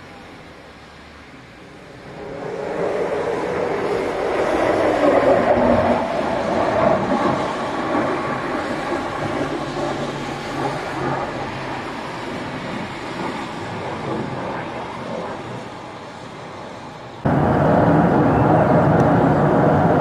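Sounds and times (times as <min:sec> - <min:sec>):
jet engine rushing overhead: 0:00.0 - 0:20.0.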